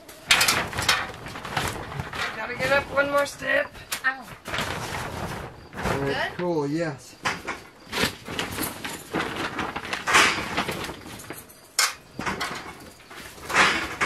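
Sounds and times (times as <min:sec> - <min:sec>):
tarp rustling: 0:00.0 - 0:14.0.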